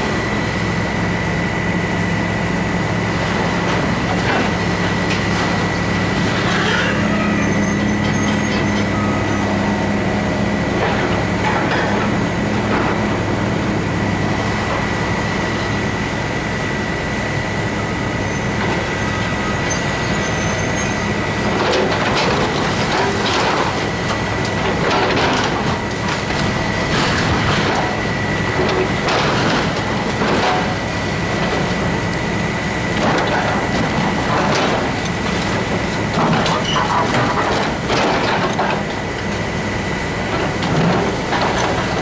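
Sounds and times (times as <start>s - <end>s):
excavator diesel engine: 0.0s - 42.0s.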